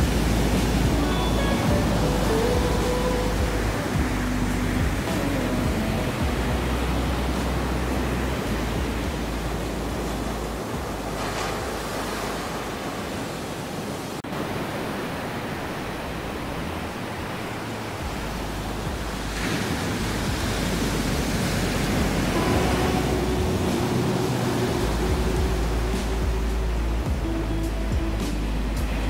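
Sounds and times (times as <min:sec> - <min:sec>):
soft sustained music notes: 0:00.0 - 0:12.7, 0:18.0 - 0:29.0
ocean surf breaking on beach: 0:00.0 - 0:29.0.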